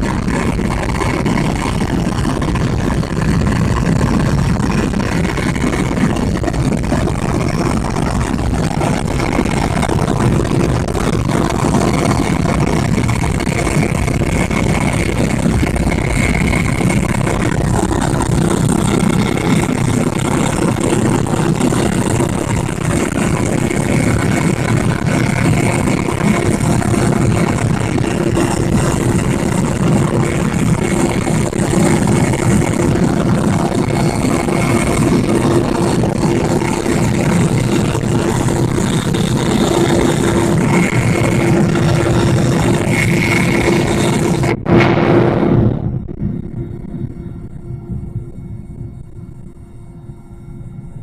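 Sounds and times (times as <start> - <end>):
helicopter engine and rotor drone: 0.0 - 51.0.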